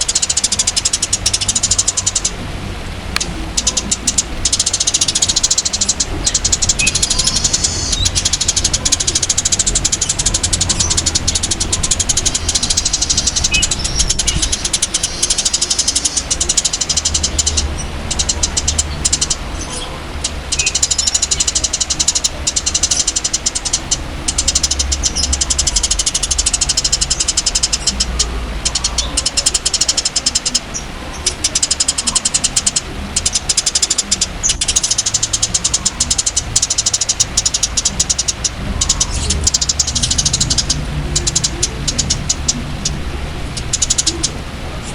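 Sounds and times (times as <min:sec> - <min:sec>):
songbird fast ticking trill: 0:00.0 - 0:02.4, 0:03.1 - 0:44.9
steady low hum: 0:00.0 - 0:44.9.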